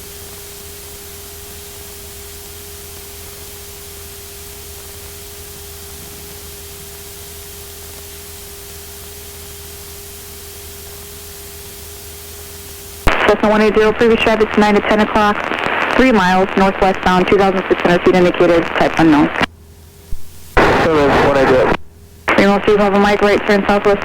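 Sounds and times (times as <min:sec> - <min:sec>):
constant whine: 0:00.0 - 0:24.0
headset static hiss: 0:00.0 - 0:24.0
low hum: 0:02.4 - 0:24.0.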